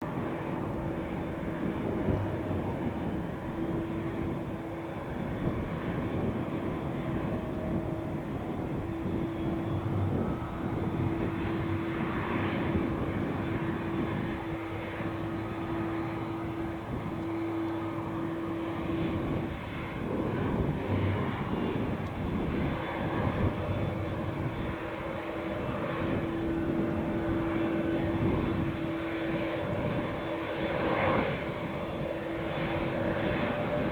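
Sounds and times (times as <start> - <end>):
airplane engines rumbling: 0.0 - 33.9
droning tone: 0.1 - 33.9.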